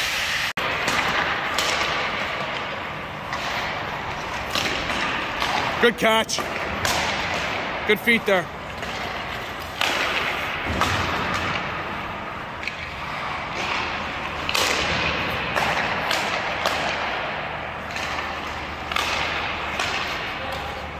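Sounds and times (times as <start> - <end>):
hockey stick clicking on puck: 0.6 - 7.6, 8.7 - 11.8, 12.6 - 17.2, 17.8 - 20.7.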